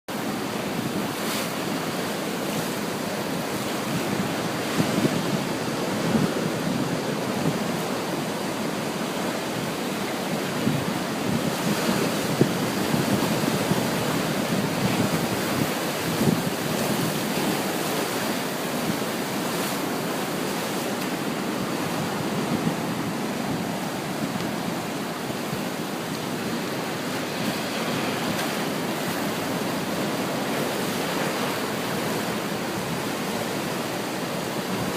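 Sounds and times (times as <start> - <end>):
ocean surf breaking on shore: 0.1 - 34.9
wind on microphone: 0.4 - 34.9.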